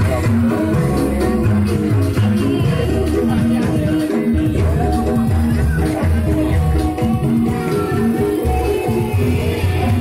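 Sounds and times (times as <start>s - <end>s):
loud music with rhythmic bass: 0.0s - 10.0s.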